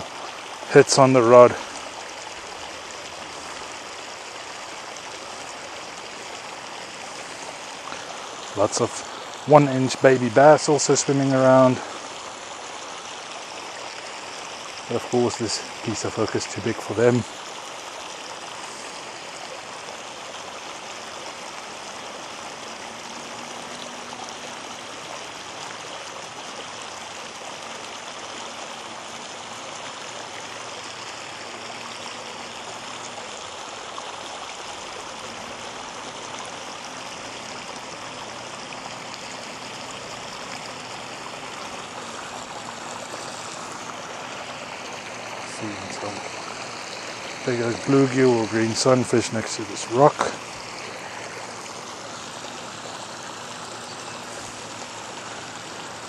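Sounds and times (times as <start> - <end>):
water pouring into pond: 0.0 - 56.0.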